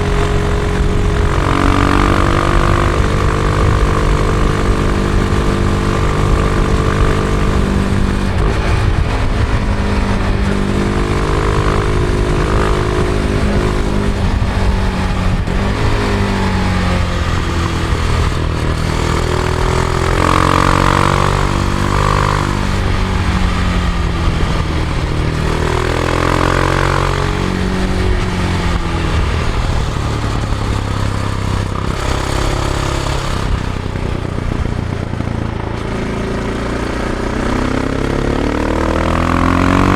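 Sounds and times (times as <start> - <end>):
motorcycle engine revving: 0.0 - 39.9
wind and road rush: 0.0 - 39.9.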